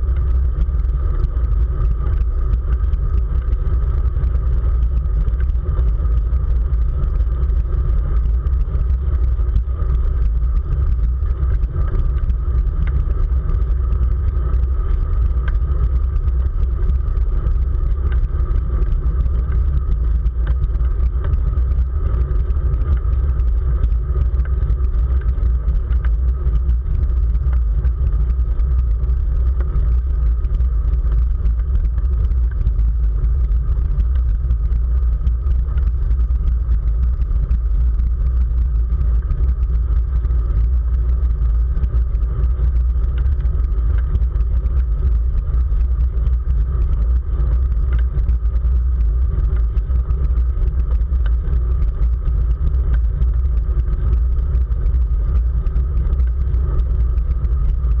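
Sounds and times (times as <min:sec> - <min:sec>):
heavy wind rumble on microphone: 0:00.0 - 0:58.0.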